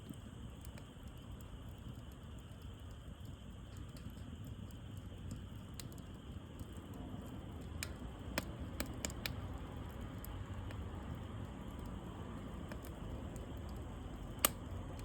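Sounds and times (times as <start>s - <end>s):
burning wood crackling pops: 0.0s - 15.0s
wood fire rumbling: 0.0s - 15.0s.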